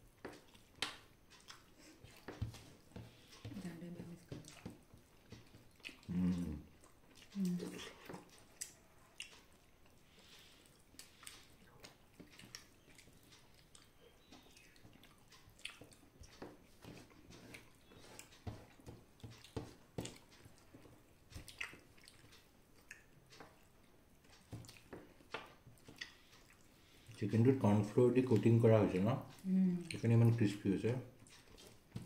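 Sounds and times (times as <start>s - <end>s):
chewing: 0.1s - 27.2s, 29.3s - 30.4s, 31.2s - 32.0s.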